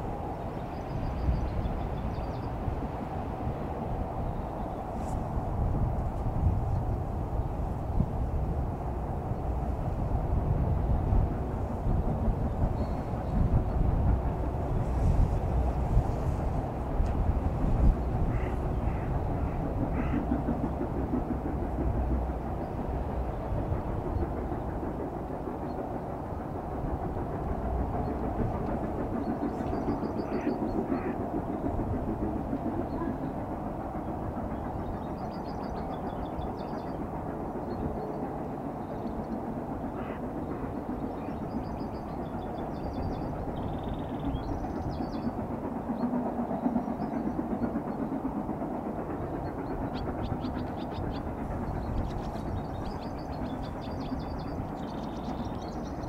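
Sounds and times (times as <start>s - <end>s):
distant steam train rumble: 0.0s - 56.0s.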